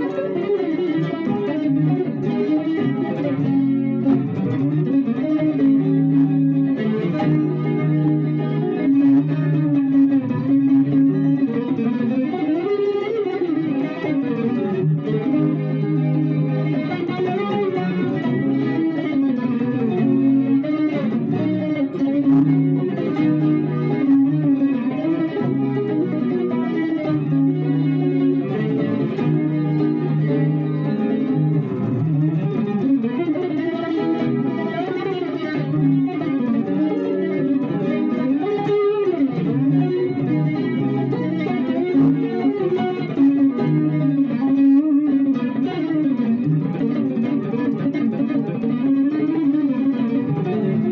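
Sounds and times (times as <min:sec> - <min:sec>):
solo electric guitar: 0:00.0 - 0:50.9.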